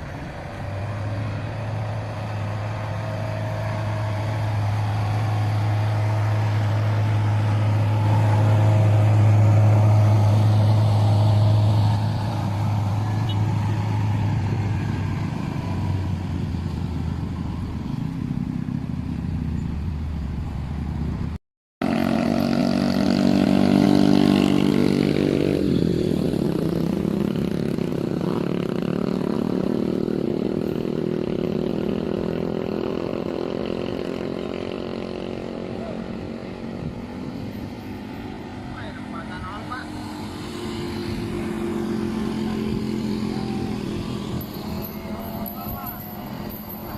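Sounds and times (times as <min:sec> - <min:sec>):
diesel truck engine droning: 0:00.0 - 0:21.3, 0:21.9 - 0:46.9
engine running: 0:00.0 - 0:46.9.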